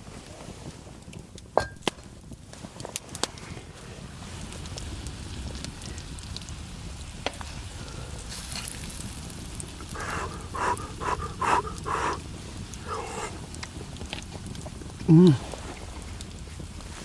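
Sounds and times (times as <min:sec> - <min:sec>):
fire crackling: 0:00.0 - 0:17.0
food sizzling over fire: 0:00.0 - 0:17.0.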